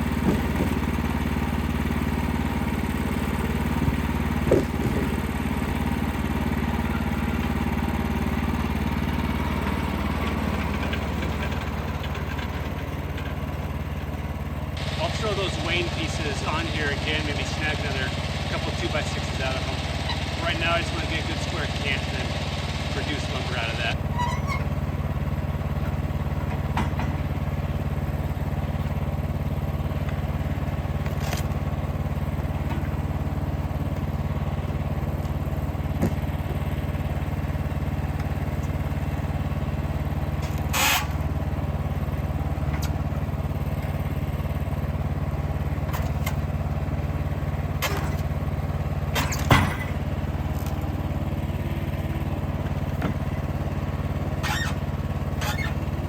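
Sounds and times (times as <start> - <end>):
sawmill engine droning: 0.0 - 56.0.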